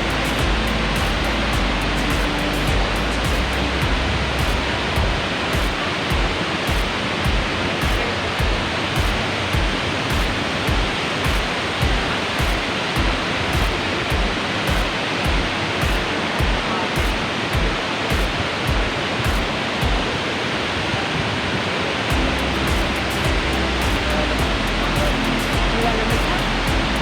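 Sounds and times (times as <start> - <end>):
music with steady beat: 0.0 - 20.1, 22.1 - 27.0
waterfall rushing: 0.0 - 27.0.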